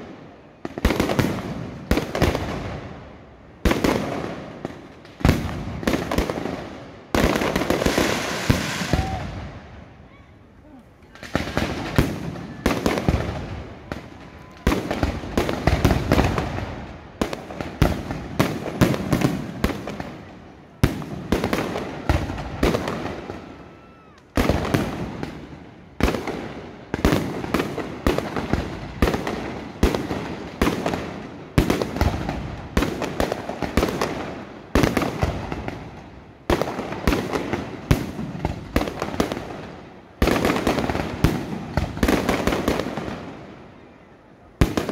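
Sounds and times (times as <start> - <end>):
fireworks bangs and crackling: 0.0 - 10.2, 11.0 - 44.9.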